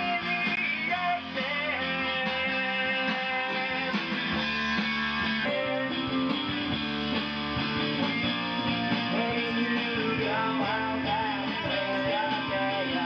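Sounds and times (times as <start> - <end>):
rock band music with guitars: 0.0 - 13.0.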